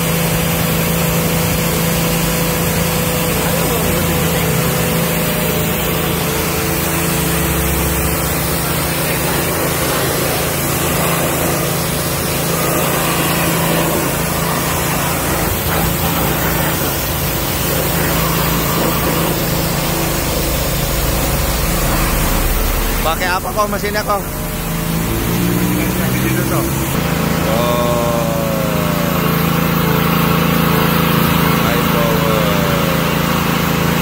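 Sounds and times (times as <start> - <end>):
pressure washer pump hum: 0.0 - 34.0
water jet hissing: 0.0 - 34.0.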